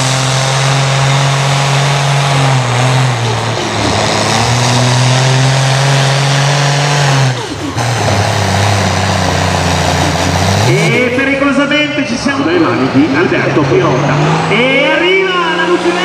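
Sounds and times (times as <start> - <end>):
engine revving under load: 0.0 - 16.0.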